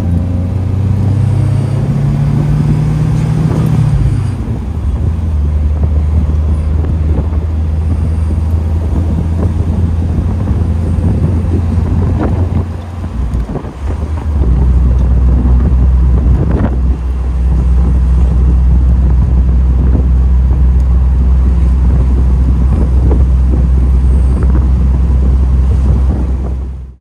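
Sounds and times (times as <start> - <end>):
car engine droning: 0.0 - 27.0
wind and road noise: 0.0 - 27.0.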